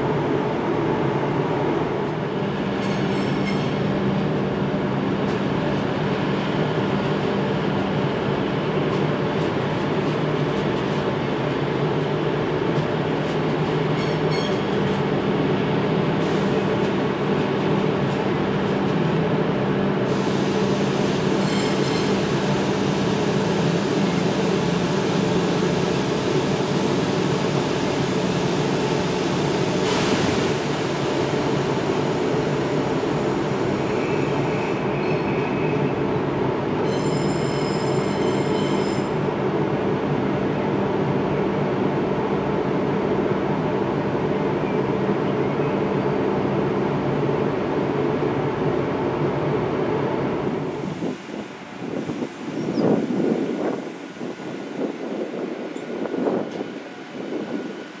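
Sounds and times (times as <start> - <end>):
train rumbling on tracks: 0.0 - 58.0.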